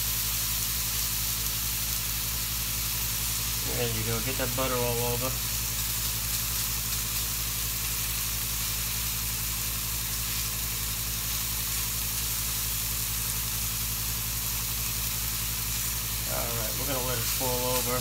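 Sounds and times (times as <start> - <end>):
steaks sizzling in a skillet: 0.0 - 18.0.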